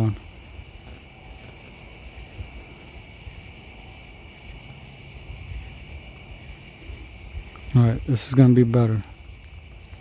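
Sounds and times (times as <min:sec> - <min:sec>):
faint insect pulsing: 0:00.0 - 0:10.0
night insects trilling: 0:00.0 - 0:10.0.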